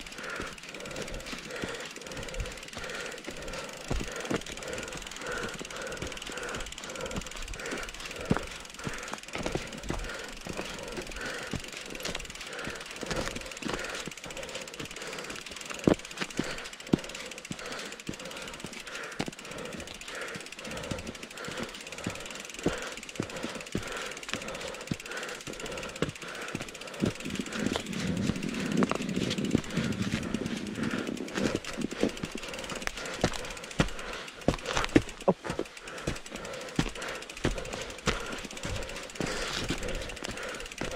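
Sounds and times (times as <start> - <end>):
bike chain and parts rattling: 0.0 - 40.9.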